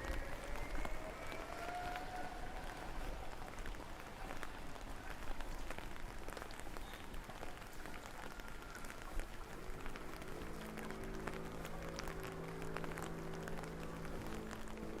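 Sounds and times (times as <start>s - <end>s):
rain falling: 0.0s - 15.0s
raindrops ticking on hard surfaces: 0.0s - 15.0s.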